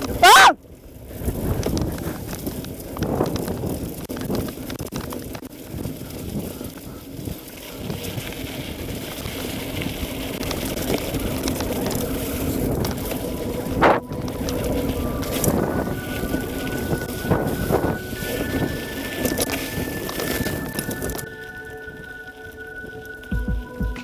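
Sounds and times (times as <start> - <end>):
bike tyres rumbling on dirt: 0.0 - 24.0
wind buffeting microphone: 0.0 - 24.0.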